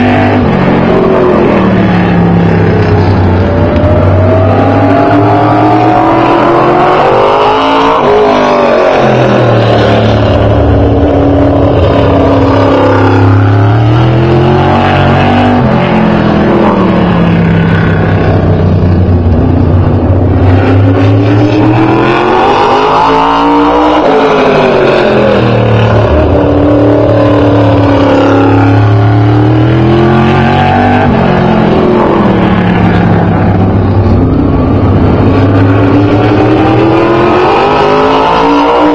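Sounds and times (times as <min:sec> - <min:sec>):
race car engine passing: 0:00.0 - 0:38.9.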